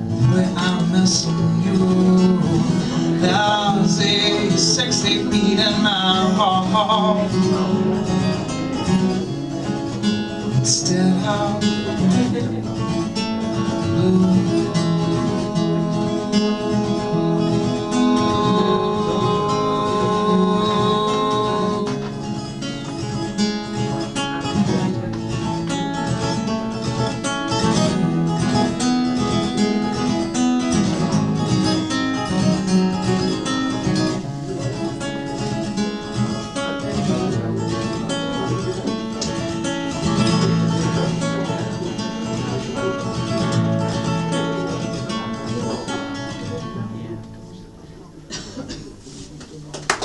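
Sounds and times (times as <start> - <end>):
acoustic guitar playing: 0.0 - 49.7.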